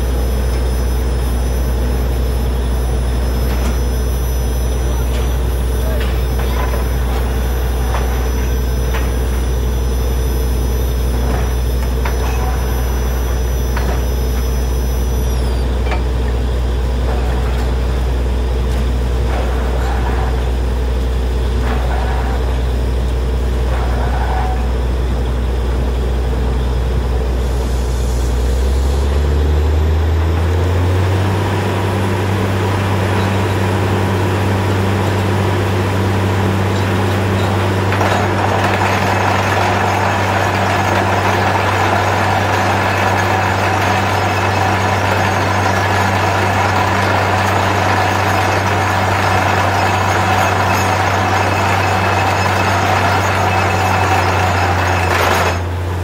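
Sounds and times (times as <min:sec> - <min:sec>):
drilling rig engine and compressor: 0:00.0 - 0:56.0.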